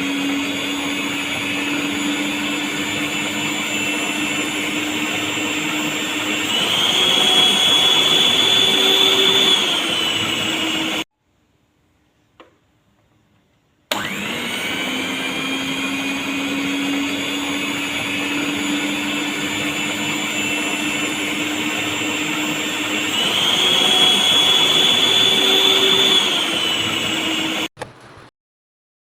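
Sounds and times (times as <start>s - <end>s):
mixer motor whine: 0.0s - 11.1s, 13.9s - 28.3s.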